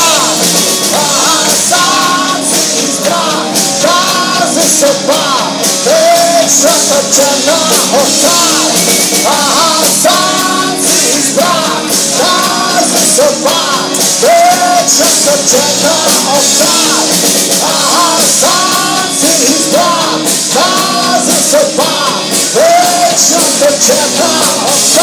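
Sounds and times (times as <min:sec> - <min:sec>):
bass guitar: 0:00.0 - 0:25.0
drums: 0:00.0 - 0:25.0
electric guitars: 0:00.0 - 0:25.0
man singing lead vocals: 0:00.0 - 0:25.0.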